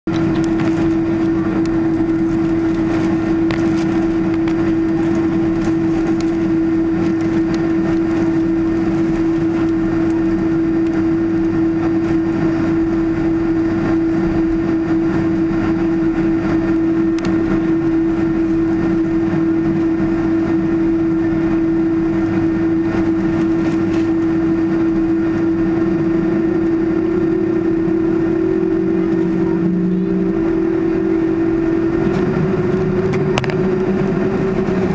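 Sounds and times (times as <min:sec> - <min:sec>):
jet engine hum: 0:00.1 - 0:34.9
jet engine whine: 0:00.1 - 0:34.9.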